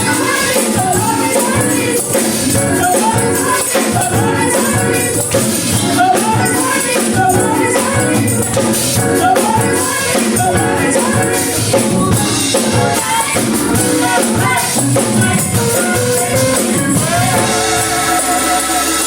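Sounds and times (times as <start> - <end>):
gospel voices singing: 0.0 - 19.0
tambourine shaking: 0.0 - 19.0.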